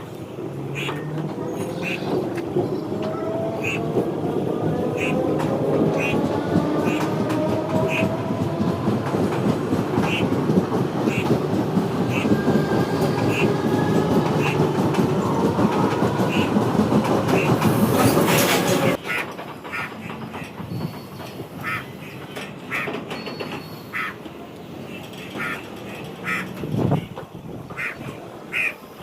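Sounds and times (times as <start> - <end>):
wheels clacking over rail joints: 0.0 - 28.9
freight train rumbling past: 0.0 - 29.0.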